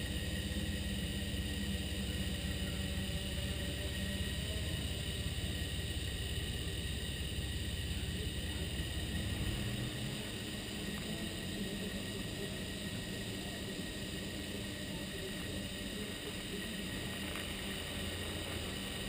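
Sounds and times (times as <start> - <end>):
quadcopter motors humming: 0.0 - 19.0.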